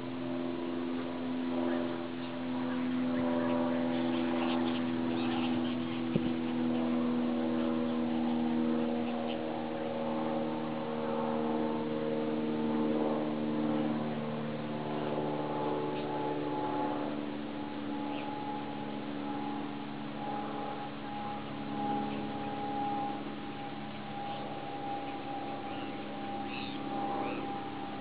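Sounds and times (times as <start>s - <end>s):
hum of overlapping tones: 0.0s - 28.0s.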